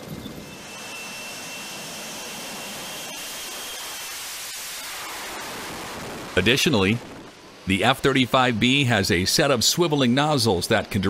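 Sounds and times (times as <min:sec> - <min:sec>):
faint high whine: 0:00.0 - 0:11.0
jet engine roar: 0:00.0 - 0:11.0.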